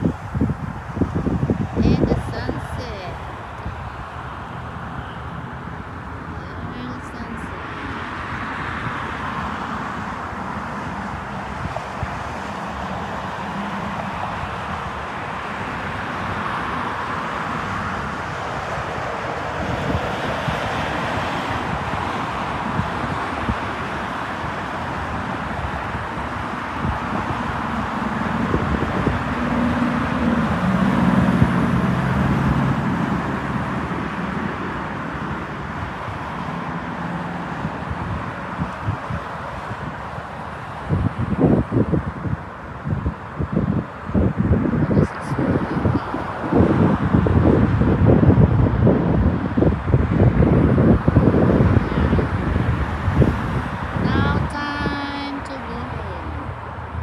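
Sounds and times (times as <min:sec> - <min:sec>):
vehicle passing: 0:00.0 - 0:43.5, 0:44.1 - 0:57.0
traffic noise: 0:00.0 - 0:57.0
wind buffeting microphone: 0:00.0 - 0:57.0.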